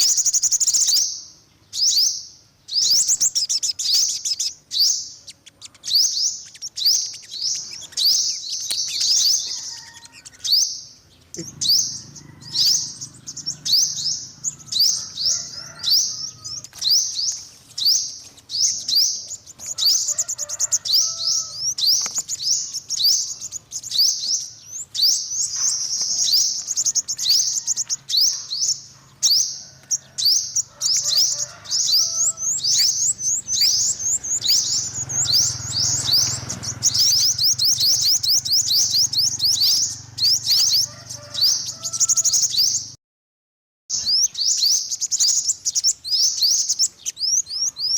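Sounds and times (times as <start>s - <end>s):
bird chirping high and thin: 0.0s - 43.0s, 43.9s - 47.9s.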